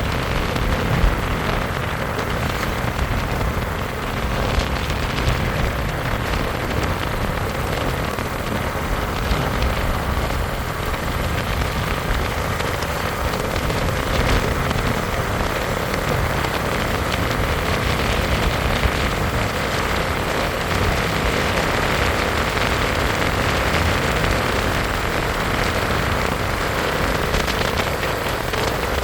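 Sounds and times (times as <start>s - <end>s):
motorcycle rushing with low rumble: 0.0s - 29.0s.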